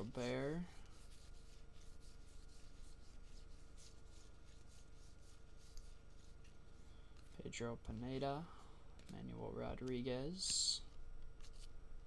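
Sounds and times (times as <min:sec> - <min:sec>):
cards swishing against cards: 0:00.0 - 0:08.2, 0:09.8 - 0:11.8.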